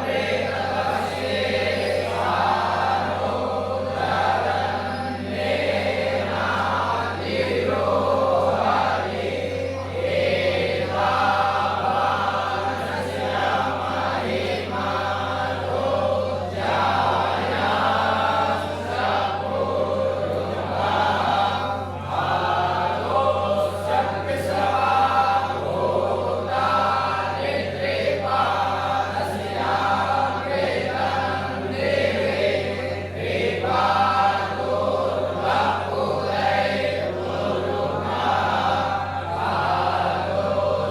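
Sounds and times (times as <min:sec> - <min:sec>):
group chanting mantras: 0:00.0 - 0:40.9
steady low hum: 0:00.0 - 0:40.9.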